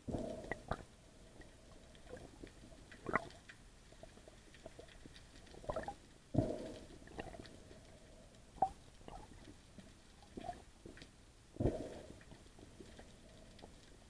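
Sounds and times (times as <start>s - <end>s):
underwater clicks and crackles: 0.0s - 14.0s.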